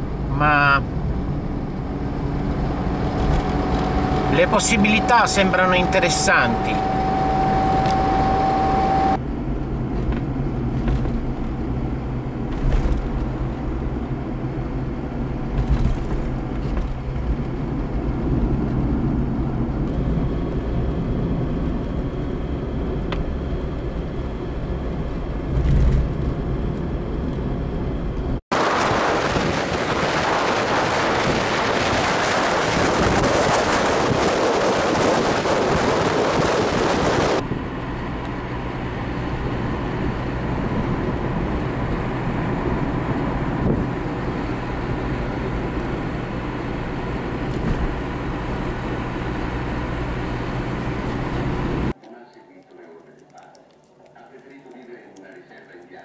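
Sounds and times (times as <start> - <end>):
car engine hum and road noise: 0.0 - 31.6, 32.2 - 52.0
wind and tyre noise: 0.0 - 52.0.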